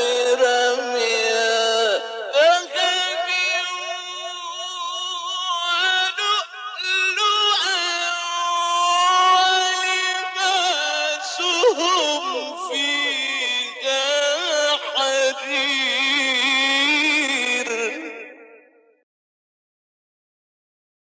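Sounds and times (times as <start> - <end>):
man chanting recitation: 0.0 - 18.2.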